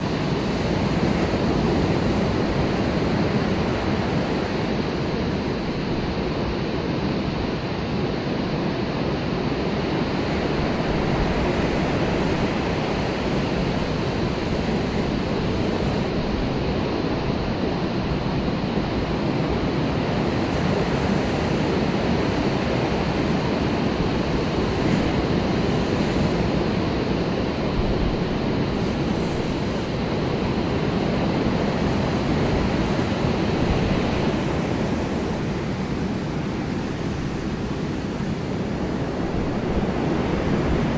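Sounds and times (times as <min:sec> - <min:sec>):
surf washing onto beach: 0:00.0 - 0:40.9
wind rumbling on microphone: 0:00.0 - 0:40.9.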